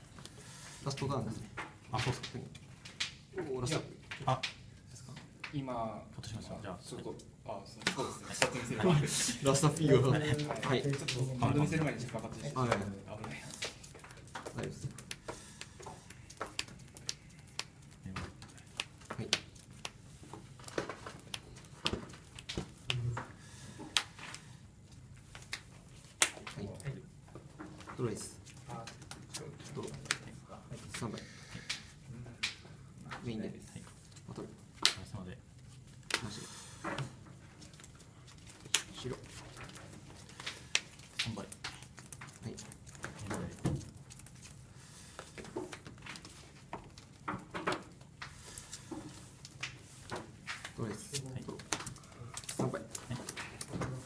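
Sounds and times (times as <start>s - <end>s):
trading cards clicking and tapping: 9.5s - 33.4s, 34.1s - 54.0s.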